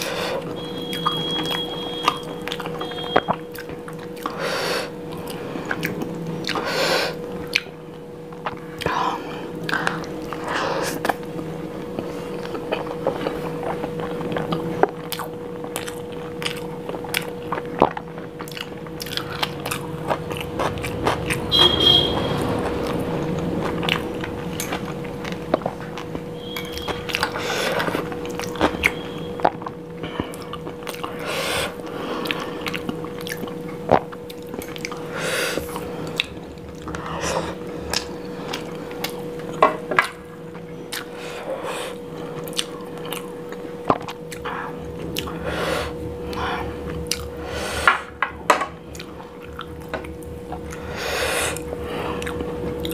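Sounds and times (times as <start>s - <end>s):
chewing with mouth clicks: 0.0s - 48.1s, 48.8s - 50.9s, 51.5s - 52.9s
steady hum: 0.0s - 52.9s.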